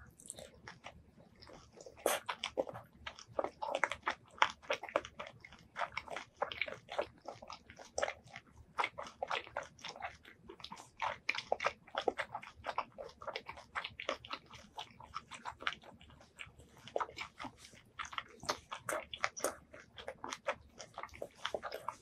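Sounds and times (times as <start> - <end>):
crunchy wet chewing: 0.0 - 22.0.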